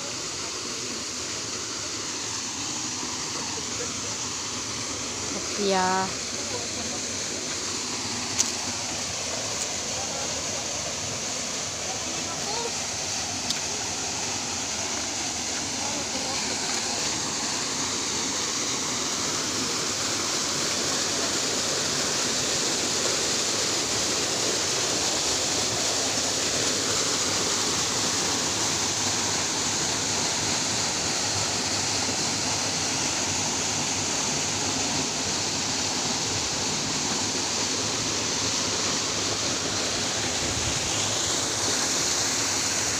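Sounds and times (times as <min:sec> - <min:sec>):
waterfall rushing water: 0:00.0 - 0:42.9.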